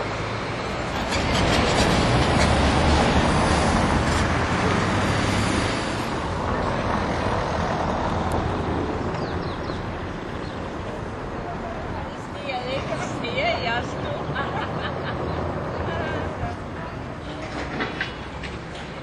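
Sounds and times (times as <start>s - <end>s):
bus driving past: 0.0s - 19.0s.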